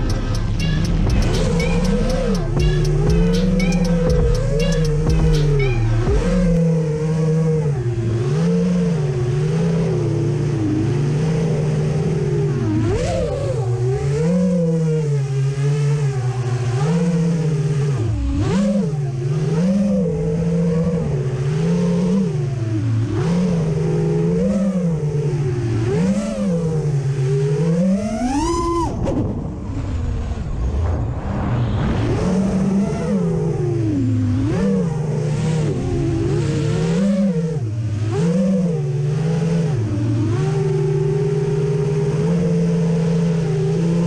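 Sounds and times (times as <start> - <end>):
quadcopter motors whining: 0.0 - 30.7, 32.1 - 44.0.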